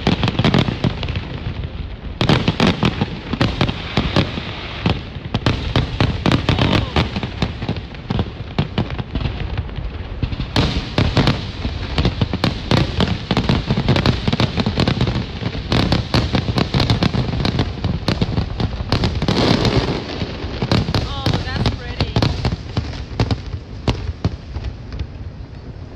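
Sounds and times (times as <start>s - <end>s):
fireworks booming and crackling: 0.0s - 25.9s.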